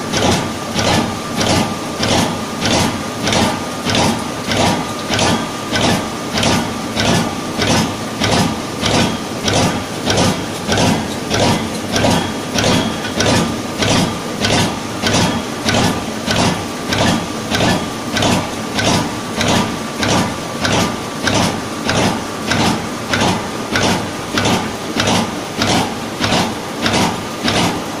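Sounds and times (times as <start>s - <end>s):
machine pulsing water rhythmically: 0.0s - 28.0s
steady machine whine: 0.0s - 28.0s.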